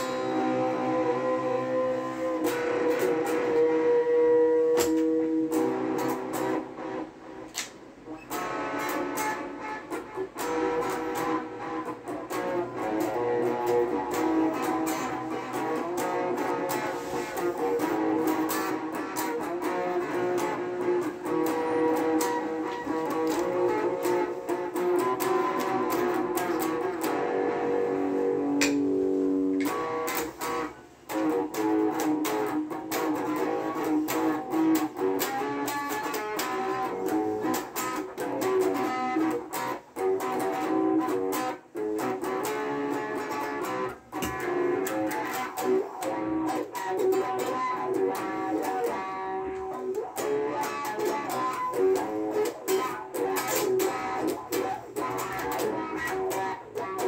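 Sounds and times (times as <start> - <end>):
electric guitar playing: 0.0 - 57.0.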